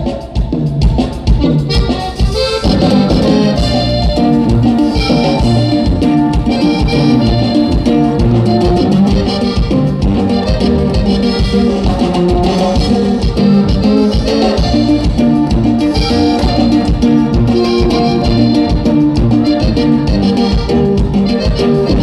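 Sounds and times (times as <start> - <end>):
drum kit beat: 0.0 - 22.0
electric guitar: 0.0 - 22.0
live band playing: 0.0 - 22.0
sousaphone bass line: 0.8 - 22.0.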